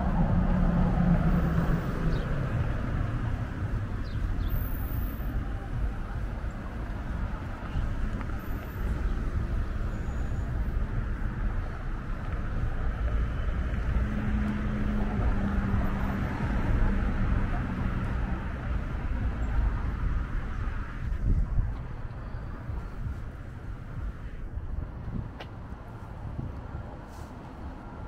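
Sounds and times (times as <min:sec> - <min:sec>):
road traffic rumble: 0:00.0 - 0:28.0
vehicle engine hum: 0:00.0 - 0:28.0.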